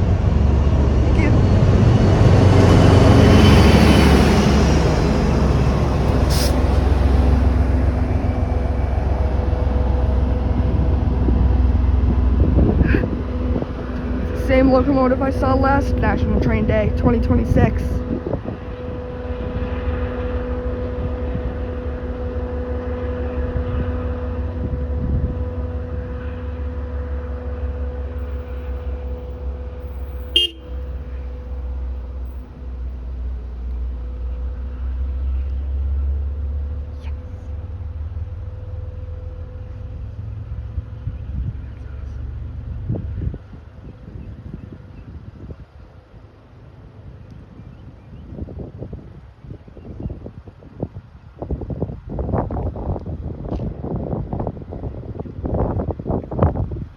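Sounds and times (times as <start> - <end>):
locomotive low rumble: 0.0 - 56.9.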